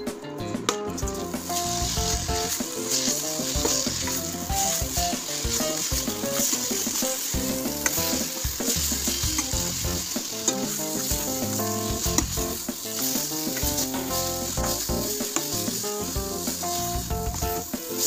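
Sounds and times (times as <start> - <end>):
spinach sizzling in hot oil: 0.9 - 18.0.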